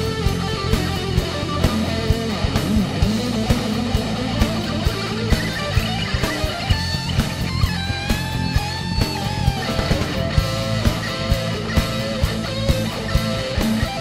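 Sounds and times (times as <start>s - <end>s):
bass guitar: 0.0s - 14.0s
electric guitars: 0.0s - 14.0s
steady drum beat: 0.0s - 14.0s.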